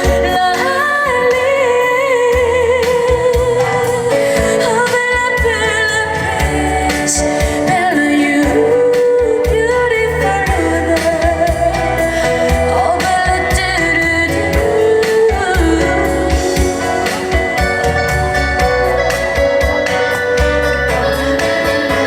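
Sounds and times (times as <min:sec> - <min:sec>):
band accompaniment: 0:00.0 - 0:22.0
woman singing pop song: 0:00.0 - 0:22.0.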